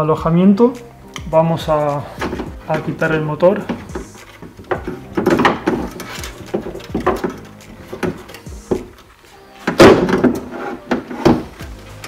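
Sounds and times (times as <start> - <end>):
metal and plastic parts rattling: 1.9 - 11.6.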